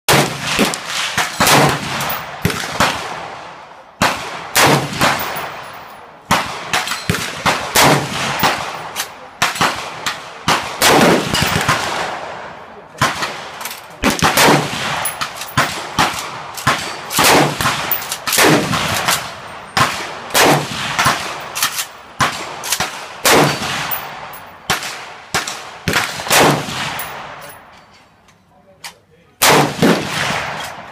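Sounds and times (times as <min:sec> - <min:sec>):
rifle shots echoing: 0:00.1 - 0:27.6, 0:29.4 - 0:30.9.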